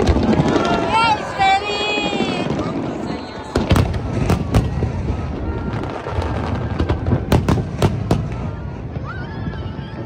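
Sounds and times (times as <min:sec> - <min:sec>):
fireworks bangs: 0:00.0 - 0:10.0
fireworks rumbling and crackling: 0:00.0 - 0:10.0.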